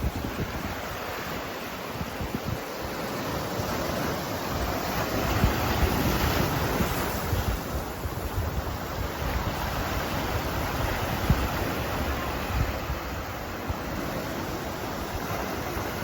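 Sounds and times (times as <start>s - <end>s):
sea waves washing: 0.0s - 16.0s
wind gusting on microphone: 0.0s - 16.0s.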